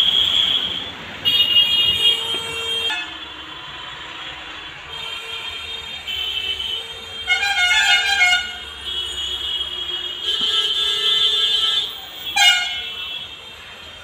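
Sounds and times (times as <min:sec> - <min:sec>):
vehicle horns honking: 0:00.0 - 0:03.6, 0:04.8 - 0:14.0.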